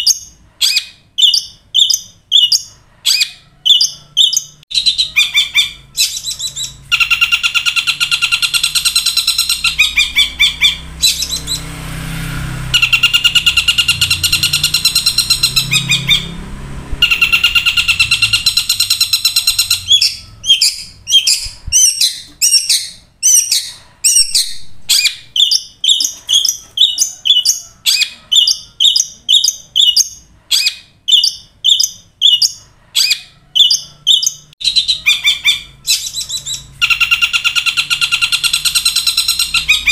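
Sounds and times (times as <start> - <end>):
shrike calling: 0.0 - 11.8, 12.6 - 39.9.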